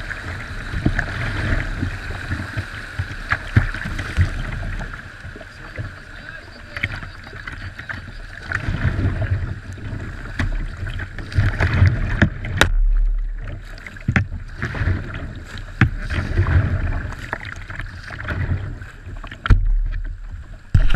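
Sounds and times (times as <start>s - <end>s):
paddle splashes: 0.0s - 20.9s
rushing water: 0.0s - 20.9s
water slapping hull: 0.0s - 20.9s.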